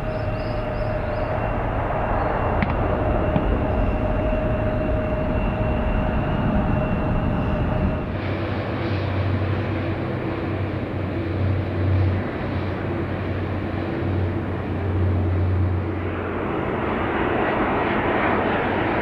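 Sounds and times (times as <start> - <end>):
jet engines humming low: 0.0 - 19.0
jet engines whining: 0.0 - 19.0.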